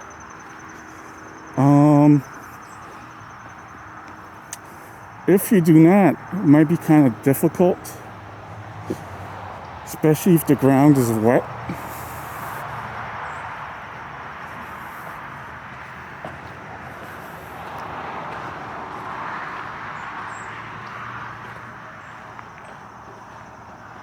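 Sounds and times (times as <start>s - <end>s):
distant traffic: 0.0s - 24.0s.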